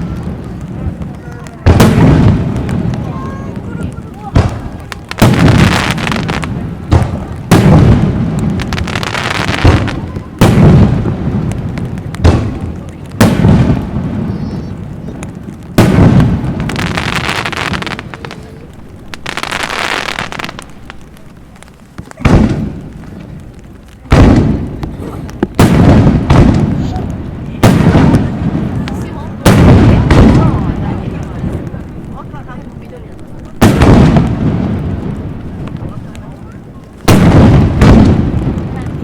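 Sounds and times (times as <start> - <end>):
fireworks booming: 0.0 - 39.0.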